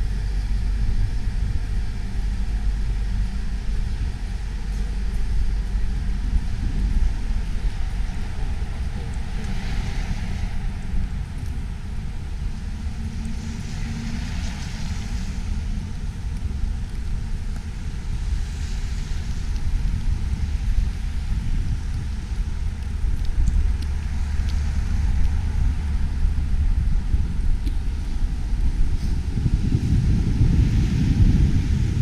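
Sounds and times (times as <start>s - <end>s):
cars passing with hiss: 0.0s - 32.0s
wind on microphone: 0.0s - 32.0s.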